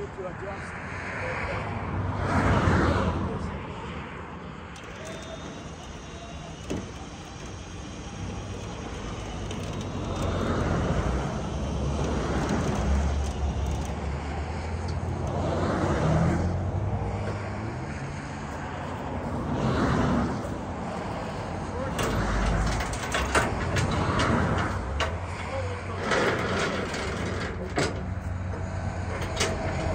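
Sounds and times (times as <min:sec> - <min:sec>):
vehicles passing at speed: 0:00.0 - 0:29.9
low steady engine hum: 0:04.5 - 0:29.9.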